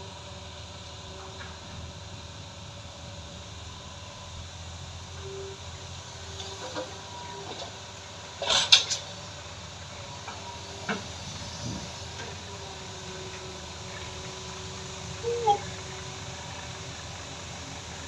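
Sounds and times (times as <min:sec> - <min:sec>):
excavator engine drone: 0:00.0 - 0:18.0
faint steady whine: 0:00.0 - 0:18.0.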